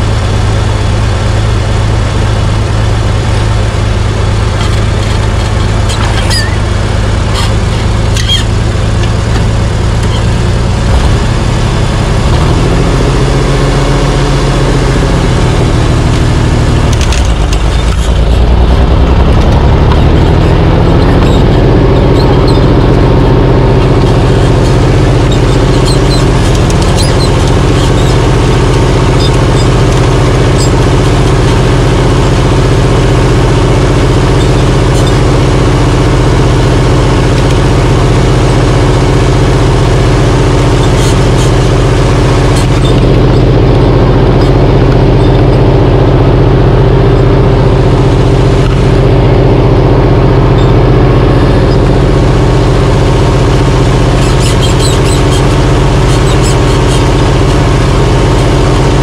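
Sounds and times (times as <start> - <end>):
tractor engine under load: 0.0 - 59.0.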